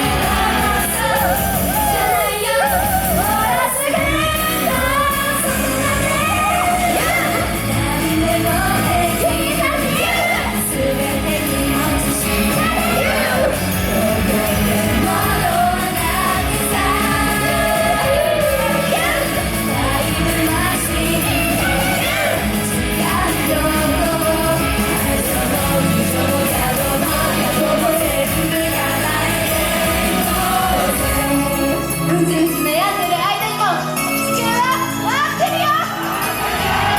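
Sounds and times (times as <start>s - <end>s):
person singing: 0.0s - 32.9s
band playing pop music: 0.0s - 36.9s.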